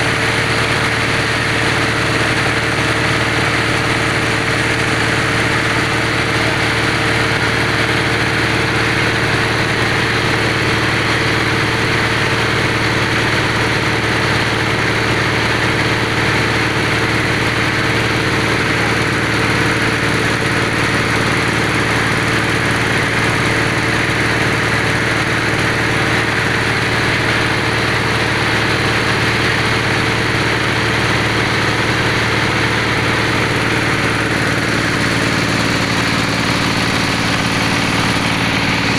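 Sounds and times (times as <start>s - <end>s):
drilling machine engine running: 0.0s - 38.9s.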